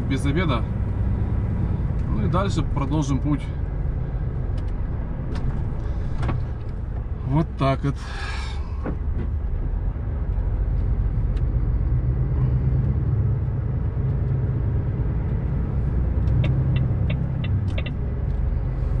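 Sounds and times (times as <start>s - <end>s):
truck engine and road drone: 0.0s - 19.0s.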